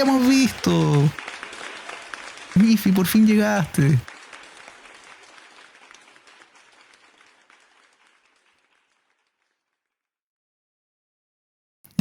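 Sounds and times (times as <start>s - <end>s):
applause: 0.0s - 10.1s.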